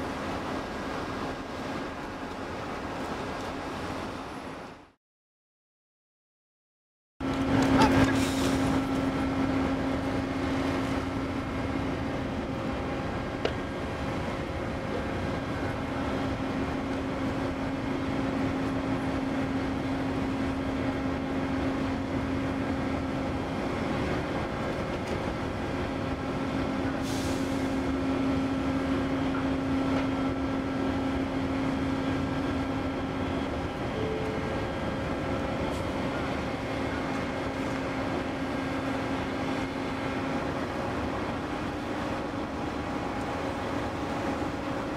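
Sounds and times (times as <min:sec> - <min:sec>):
crane machinery humming: 0:07.2 - 0:44.9.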